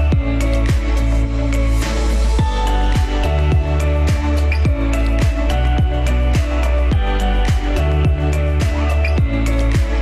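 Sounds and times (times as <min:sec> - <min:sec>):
deep bass and bass drum: 0:00.0 - 0:10.0
hi-hat strokes: 0:00.0 - 0:10.0.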